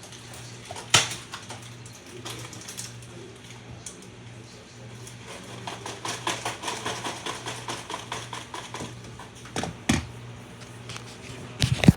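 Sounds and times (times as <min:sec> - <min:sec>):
popcorn popping: 0:00.0 - 0:10.3
microwave oven hum: 0:00.0 - 0:11.9.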